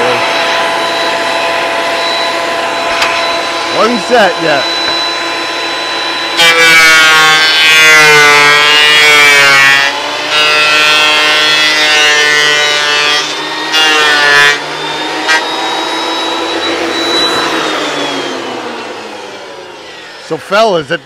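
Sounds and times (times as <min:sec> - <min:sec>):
thickness planer running: 0:00.0 - 0:21.0.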